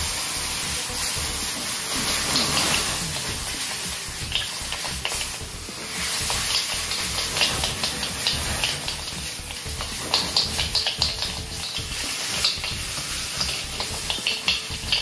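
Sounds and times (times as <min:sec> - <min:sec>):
meat sizzling in a wok: 0:00.0 - 0:15.0
oil popping: 0:00.0 - 0:15.0
wok being tossed: 0:00.6 - 0:15.0.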